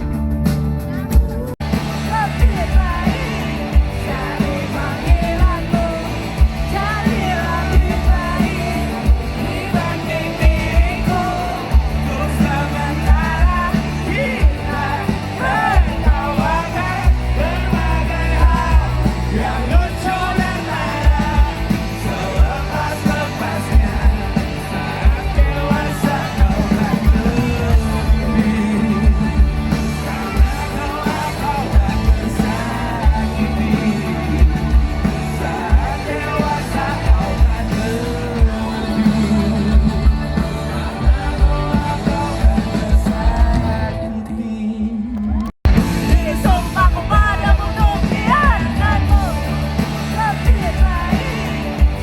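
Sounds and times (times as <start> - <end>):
band playing loud music: 0.0 - 52.0
person singing: 1.0 - 52.0.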